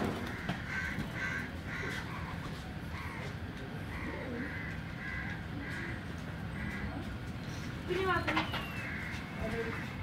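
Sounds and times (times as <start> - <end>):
crows cawing: 0.0 - 7.3, 8.5 - 10.0.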